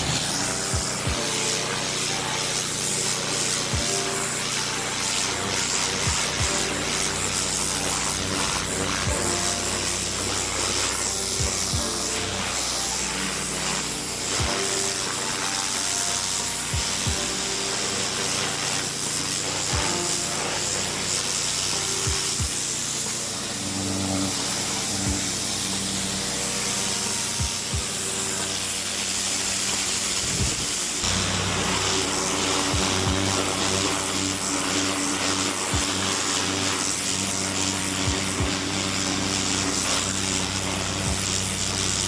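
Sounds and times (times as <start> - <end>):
background music with steady beat: 0.0 - 42.0
pressure washer spraying hiss: 0.0 - 42.0.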